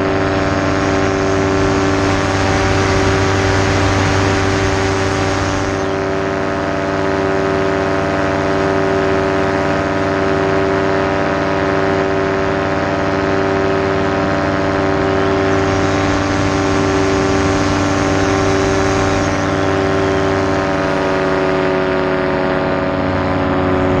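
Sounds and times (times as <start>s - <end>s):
paramotor engine and propeller: 0.0s - 24.0s.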